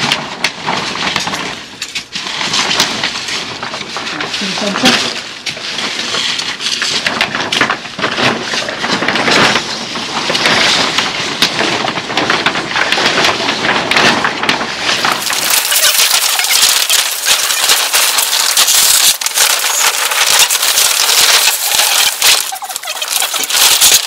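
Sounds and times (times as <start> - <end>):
plastic sheet crackling: 0.0 - 24.0.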